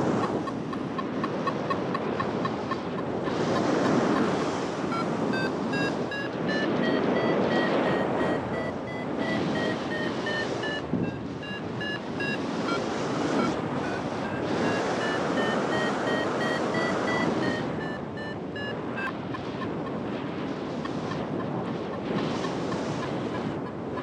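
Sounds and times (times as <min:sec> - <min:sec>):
wind on microphone: 0:00.0 - 0:24.0
variometer beeping rapidly: 0:00.2 - 0:19.9.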